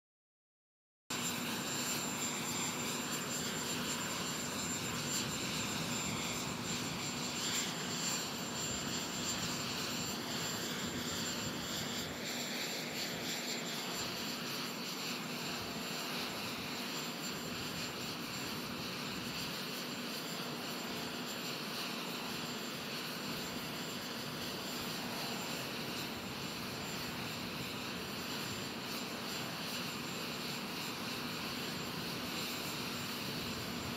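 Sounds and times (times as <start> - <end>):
jet aircraft noise: 1.1 - 33.9.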